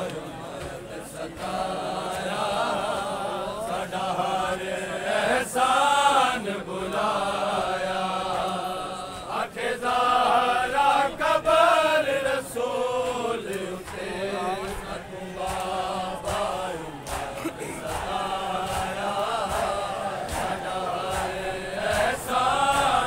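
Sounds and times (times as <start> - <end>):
men chanting a lament: 0.0 - 23.0.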